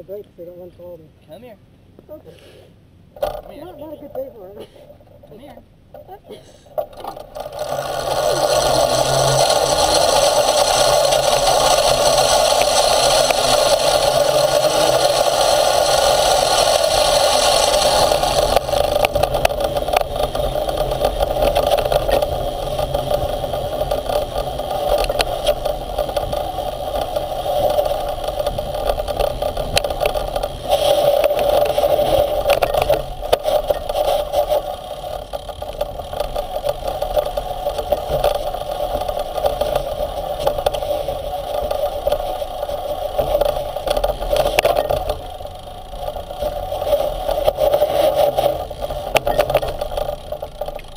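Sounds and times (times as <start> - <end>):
wheels rattling and scraping on dirt: 2.8 - 50.9
motorized skate drive running: 5.3 - 50.9.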